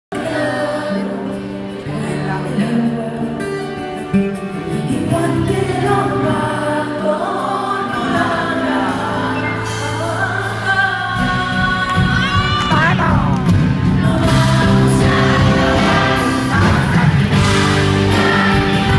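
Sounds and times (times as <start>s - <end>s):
woman singing pop song: 0.1s - 18.9s.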